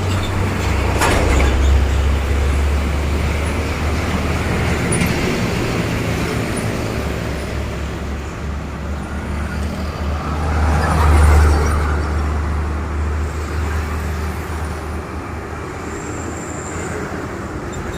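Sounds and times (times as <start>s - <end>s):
heavy trucks driving past: 0.0s - 17.9s
tyre and road noise: 0.0s - 17.9s.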